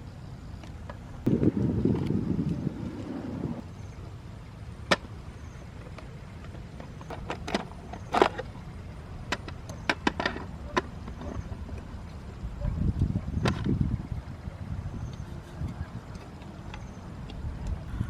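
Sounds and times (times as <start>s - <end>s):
steady low rumble: 1.0s - 18.0s.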